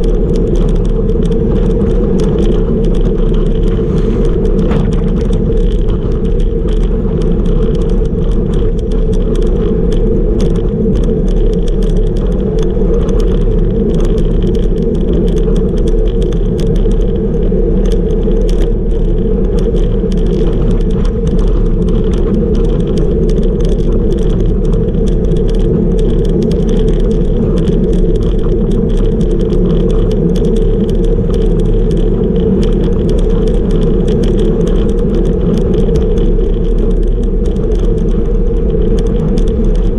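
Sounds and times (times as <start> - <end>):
bike ticking and rattling: 0.0 - 39.9
tyre noise on rough asphalt: 0.0 - 39.9
wind buffeting microphone: 0.0 - 39.9.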